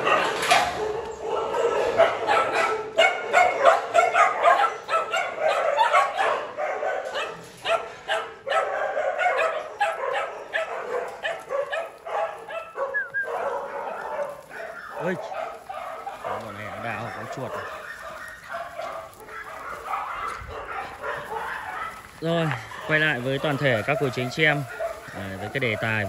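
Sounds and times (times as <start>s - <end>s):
dogs barking and yipping: 0.0s - 26.0s.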